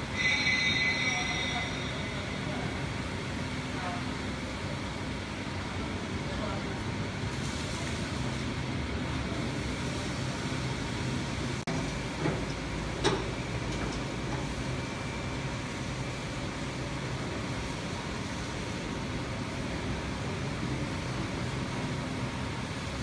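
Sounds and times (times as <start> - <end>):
workshop machinery noise: 0.0 - 23.0.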